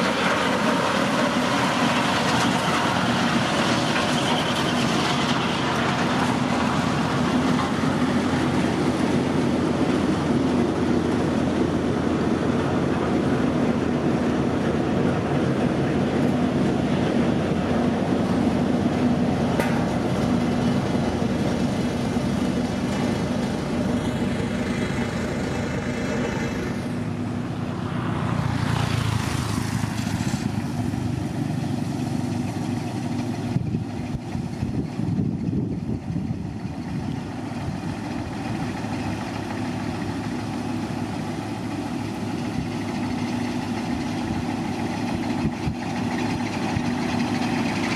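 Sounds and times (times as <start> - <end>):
diesel machinery engine running: 0.0 - 47.9.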